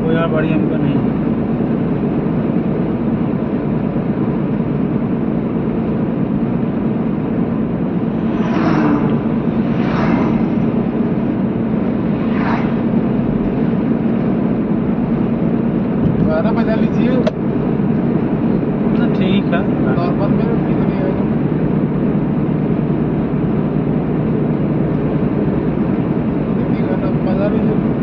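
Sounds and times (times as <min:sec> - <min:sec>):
car cabin road and engine rumble: 0:00.0 - 0:28.0.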